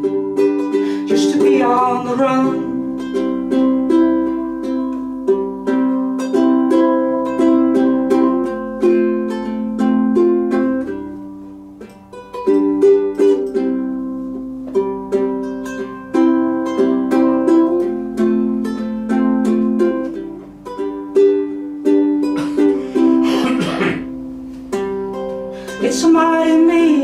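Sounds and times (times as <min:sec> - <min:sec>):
acoustic plucked string instrument: 0:00.0 - 0:27.0.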